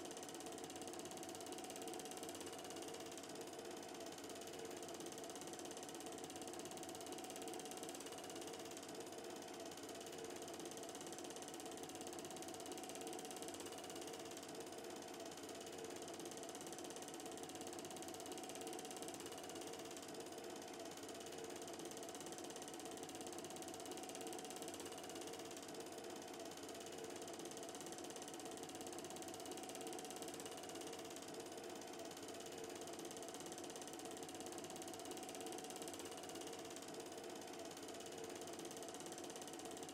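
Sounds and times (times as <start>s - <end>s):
film projector clatter and whir: 0.0s - 39.9s.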